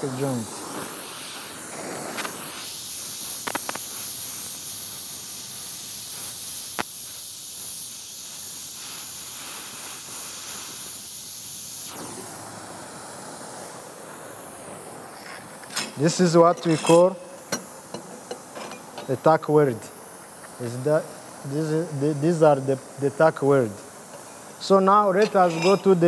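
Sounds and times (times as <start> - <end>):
welding torch flame hissing: 0.0 - 26.0.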